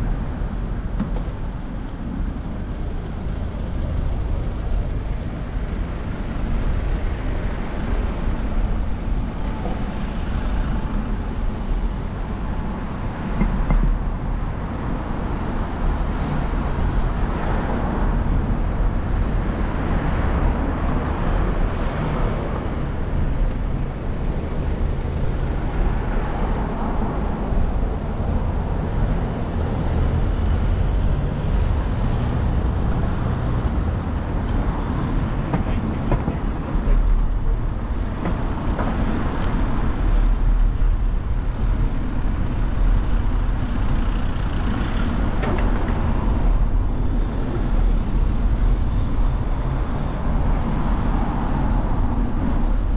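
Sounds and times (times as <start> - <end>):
cars passing close: 0.0 - 52.9
steady low traffic rumble: 0.0 - 52.9.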